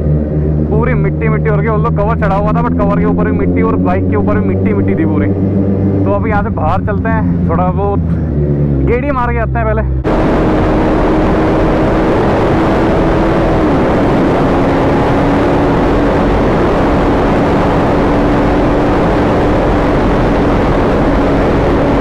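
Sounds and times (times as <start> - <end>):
motorcycle engine hum: 0.0 - 22.0
wind noise on microphone: 0.0 - 22.0.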